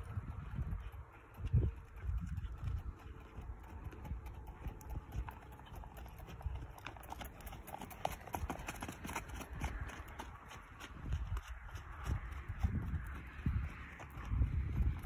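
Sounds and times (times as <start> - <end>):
horse hoofbeats on sandy dirt: 0.0 - 15.0.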